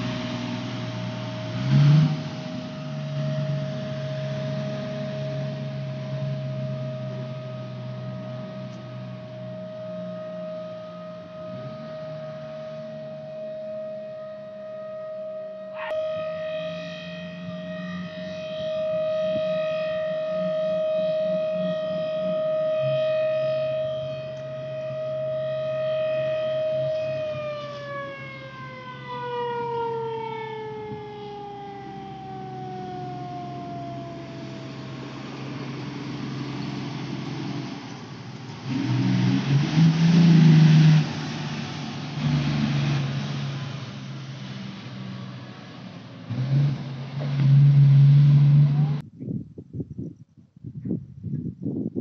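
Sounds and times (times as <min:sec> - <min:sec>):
diesel truck engine humming: 0:00.0 - 0:49.1
siren steady tone: 0:00.0 - 0:49.1.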